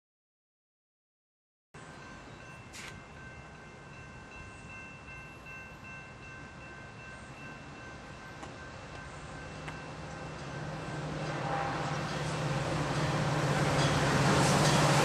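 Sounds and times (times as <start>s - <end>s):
railroad crossing bells ringing: 1.8s - 15.0s
train rumble: 1.8s - 15.0s.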